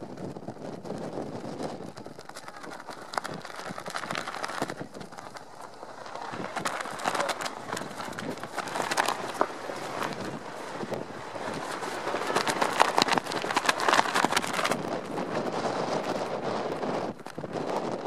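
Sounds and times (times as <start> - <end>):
steady outdoor hiss: 1.8 - 17.6.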